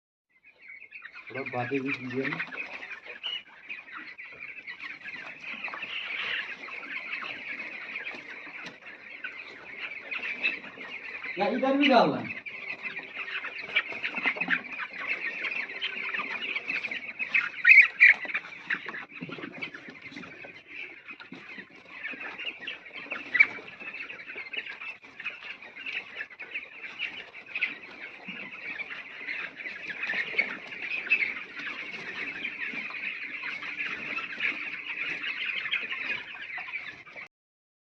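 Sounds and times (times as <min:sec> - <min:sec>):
chicks peeping: 0:00.4 - 0:37.3.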